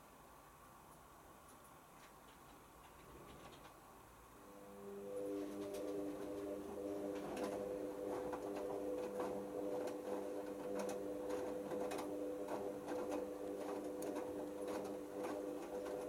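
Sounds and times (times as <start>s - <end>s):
washing machine motor hum: 2.6s - 16.0s.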